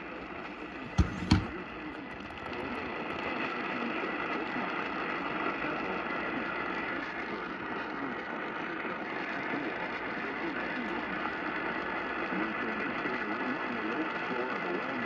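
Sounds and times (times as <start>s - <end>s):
faint radio broadcast: 0.0s - 15.0s
radio static hiss and crackle: 0.0s - 15.0s.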